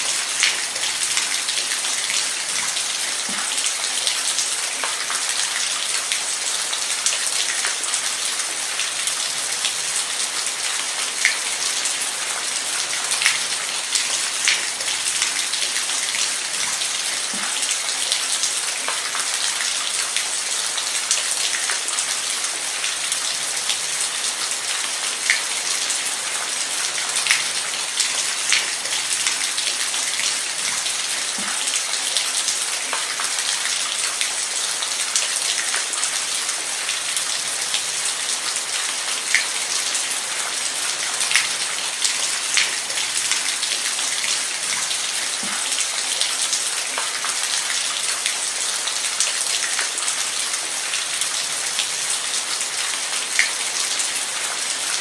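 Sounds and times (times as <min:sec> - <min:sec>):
rain hissing on a surface: 0:00.0 - 0:55.0.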